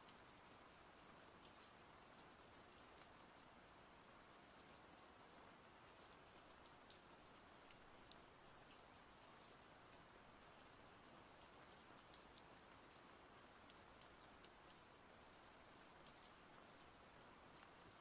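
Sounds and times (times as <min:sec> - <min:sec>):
raindrops ticking: 0:00.1 - 0:18.0.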